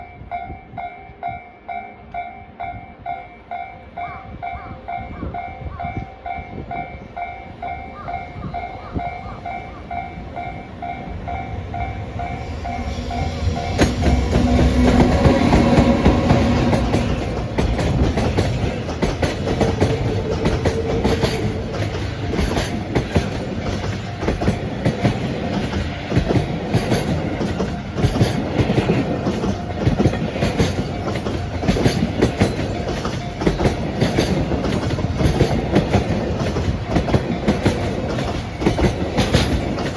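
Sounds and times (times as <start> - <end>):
electric locomotive passing: 0.0 - 39.9
level crossing warning bell: 0.0 - 39.9
train wheels clacking on rail joints: 5.8 - 39.9.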